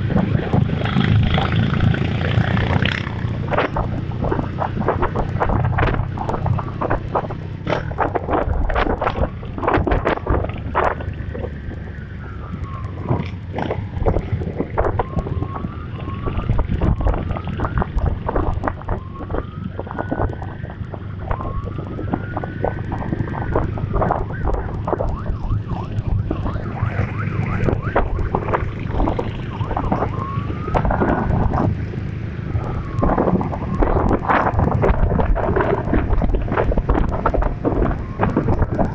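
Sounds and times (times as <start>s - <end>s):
engine rumble: 0.0s - 38.9s
wind buffeting microphone: 0.0s - 38.9s
siren wailing and yelping: 0.8s - 38.9s.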